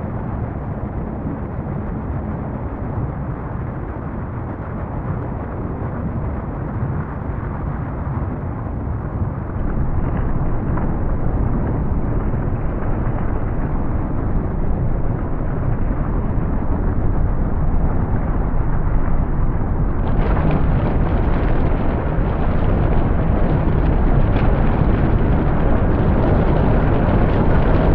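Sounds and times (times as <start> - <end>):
deep volcanic rumble: 0.0 - 27.9.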